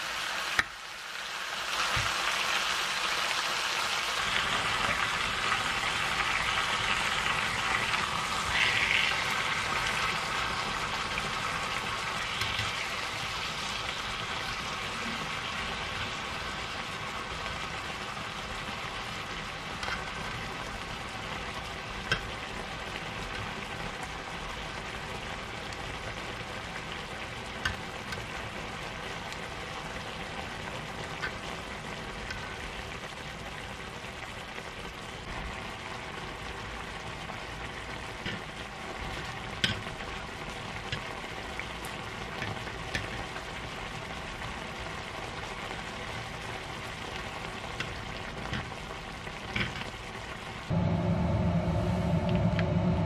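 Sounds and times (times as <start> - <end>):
food sizzling and bubbling: 0.0 - 53.0.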